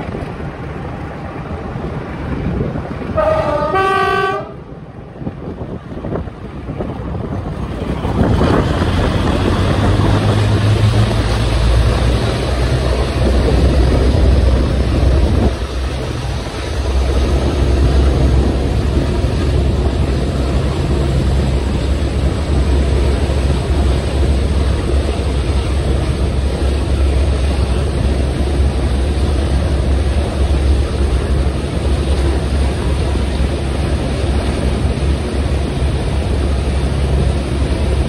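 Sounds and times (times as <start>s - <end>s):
train wheels rumbling on rail: 0.0s - 38.0s
wind rush: 0.0s - 38.0s.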